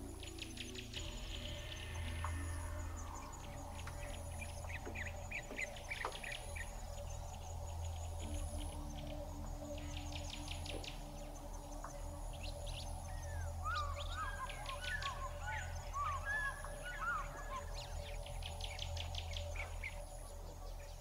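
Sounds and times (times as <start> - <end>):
birds chirping and trilling: 0.0 - 21.0
low steady hum: 0.0 - 21.0.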